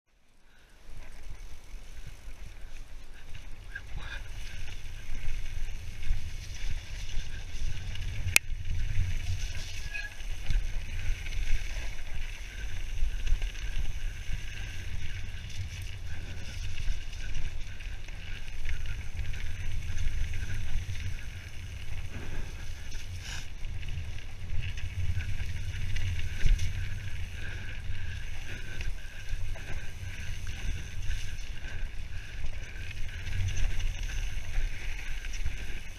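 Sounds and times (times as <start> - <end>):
bike tyre noise: 0.1 - 35.9
bike rattling over ground: 0.5 - 35.9
wind rumble on microphone: 0.8 - 35.9.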